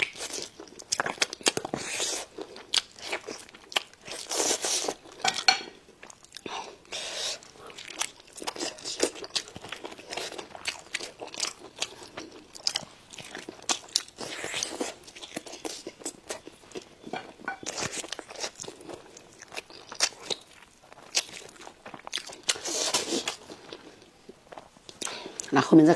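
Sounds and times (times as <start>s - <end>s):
chewing crunchy food: 0.0s - 25.7s.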